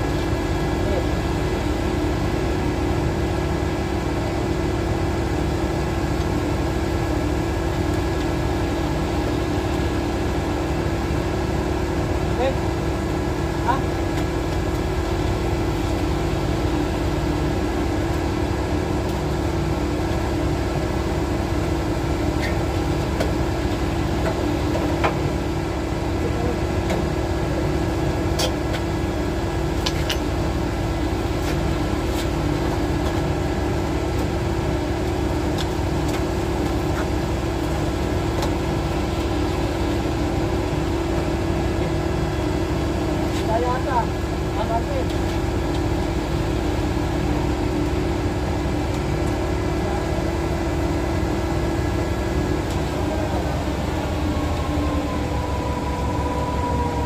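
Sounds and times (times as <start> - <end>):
concrete pump engine drone: 0.0 - 57.0.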